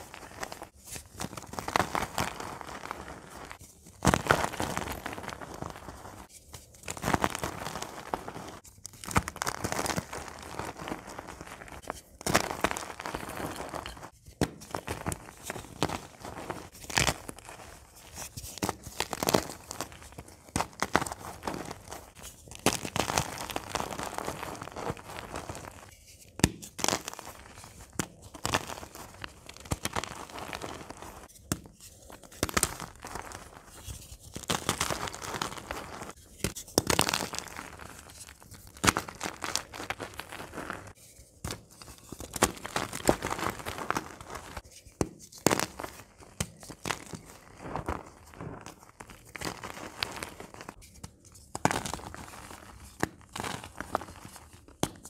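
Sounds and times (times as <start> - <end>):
chalk crunching and crackling: 0.0 - 55.0.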